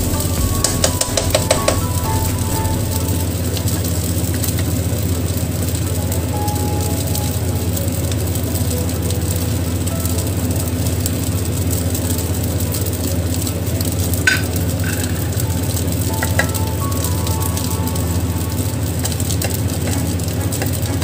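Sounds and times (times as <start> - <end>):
gas burner hum: 0.0 - 21.0
rice sizzling in a wok: 0.0 - 21.0.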